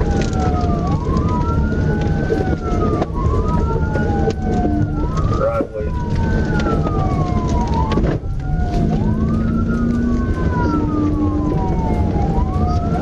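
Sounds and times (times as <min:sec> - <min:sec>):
car road and engine rumble: 0:00.0 - 0:13.0
police sirens wailing: 0:00.0 - 0:13.0.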